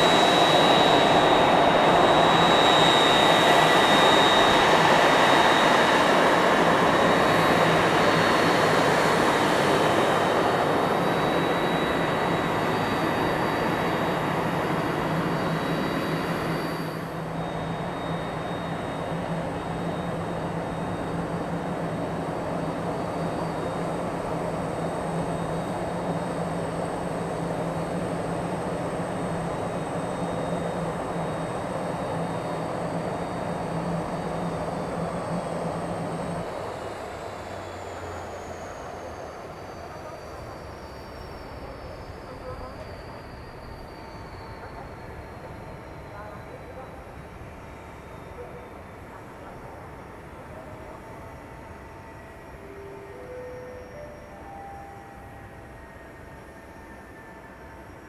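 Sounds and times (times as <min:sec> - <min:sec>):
jet engines running: 0:00.0 - 0:54.6.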